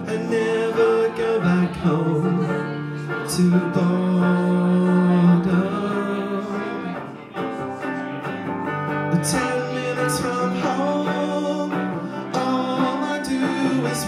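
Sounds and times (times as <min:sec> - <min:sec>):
guitar and vocal song: 0:00.0 - 0:14.0.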